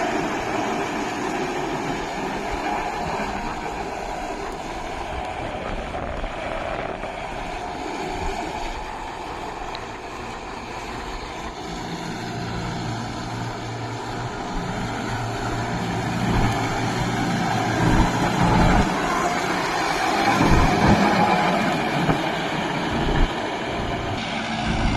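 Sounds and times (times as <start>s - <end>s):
tractor diesel engine under load: 0.0s - 24.9s.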